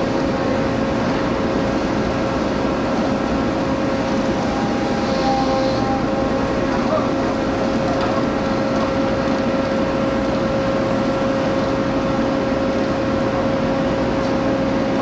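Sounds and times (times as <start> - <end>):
heavy machinery droning: 0.0 - 15.0.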